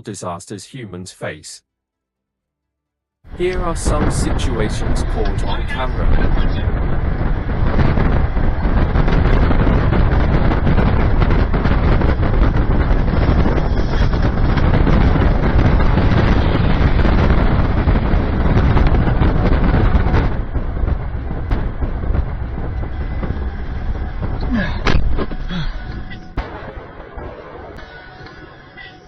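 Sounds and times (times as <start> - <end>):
wind buffeting microphone: 3.3 - 28.7.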